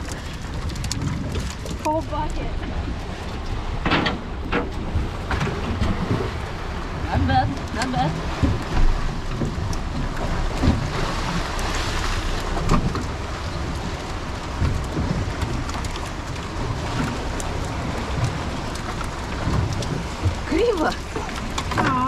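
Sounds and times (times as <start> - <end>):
choppy sea and breaking surf: 0.0 - 22.0
wind rumbling on microphone: 0.0 - 22.0.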